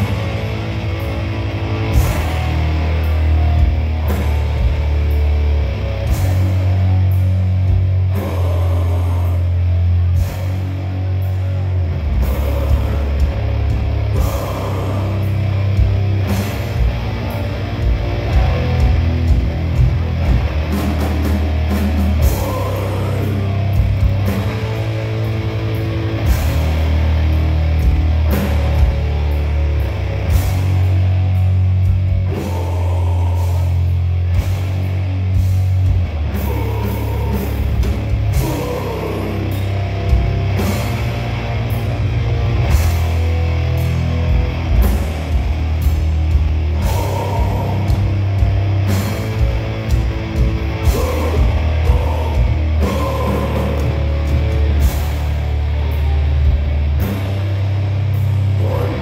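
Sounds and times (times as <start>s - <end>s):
live heavy rock band playing: 0.0s - 59.0s.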